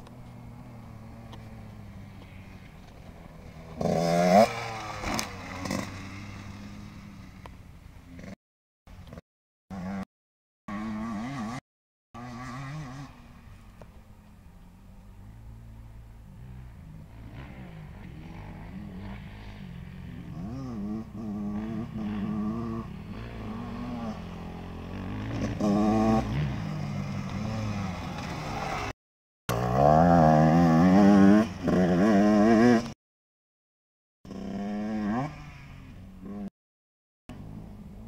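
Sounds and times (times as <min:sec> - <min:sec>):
dirt bike engine revving: 0:00.2 - 0:07.4, 0:08.0 - 0:10.1, 0:10.7 - 0:11.6, 0:12.2 - 0:13.8, 0:14.6 - 0:33.0, 0:34.3 - 0:36.5.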